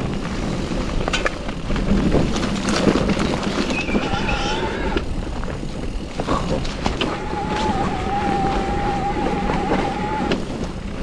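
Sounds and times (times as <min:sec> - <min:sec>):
bike clicks and rattles: 0:00.0 - 0:11.0
bike tyres rumbling on dirt: 0:00.0 - 0:11.0.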